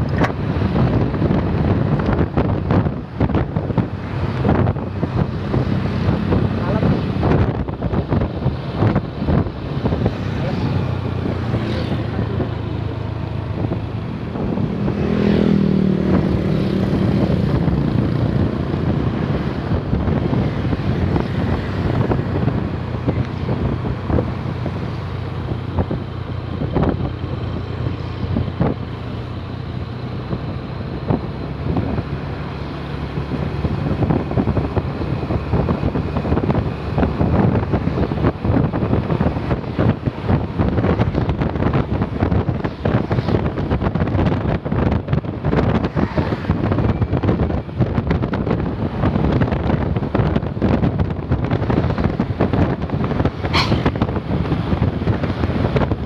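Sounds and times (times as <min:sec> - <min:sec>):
bus engine humming: 0:00.0 - 0:56.0
wind buffeting microphone: 0:00.0 - 0:56.0.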